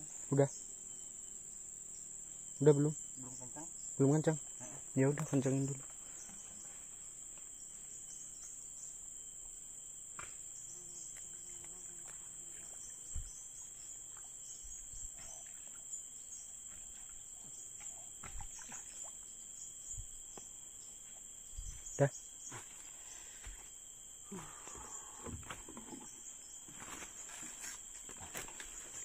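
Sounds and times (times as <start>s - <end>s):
insect chorus droning: 0.0s - 29.0s.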